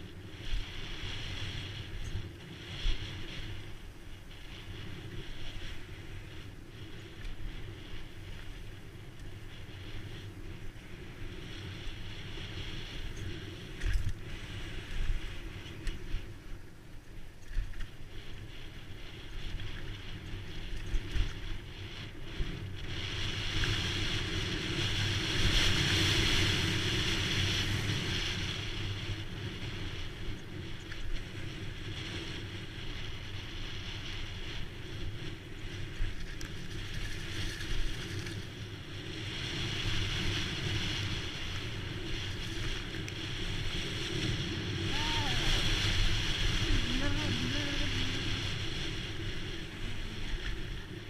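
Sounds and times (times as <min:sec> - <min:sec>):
tyres rumbling on dirt trail: 0:00.0 - 0:51.0
wind rushing over microphone: 0:00.0 - 0:51.0.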